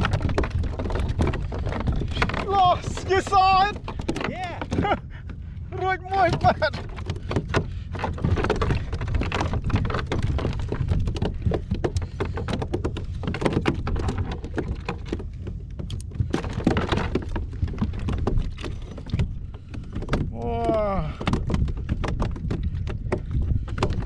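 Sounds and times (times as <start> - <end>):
tapping on plastic kayak deck: 0.0 - 5.3, 6.1 - 24.0
wind rumble on microphone: 0.0 - 24.0.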